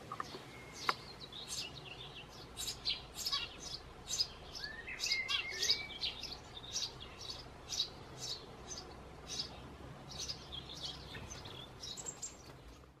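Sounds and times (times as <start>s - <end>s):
nestlings chirping: 0.0s - 12.9s.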